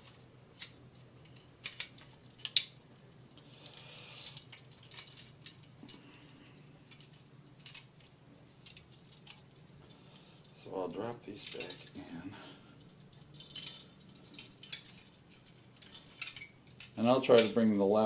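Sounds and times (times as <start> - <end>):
small clicks from handling wires: 0.0 - 10.7, 11.3 - 17.8
rustling of plastic parts: 0.0 - 18.0.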